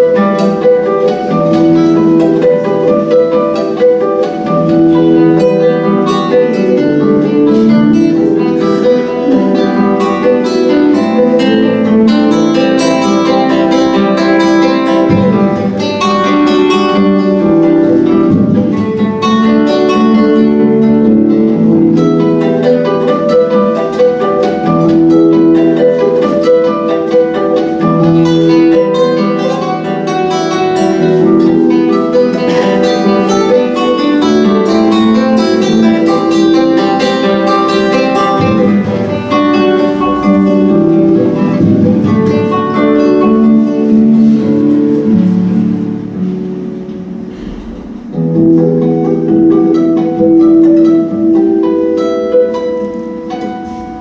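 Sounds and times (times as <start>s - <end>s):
plucked string instrumental music: 0.0s - 54.0s.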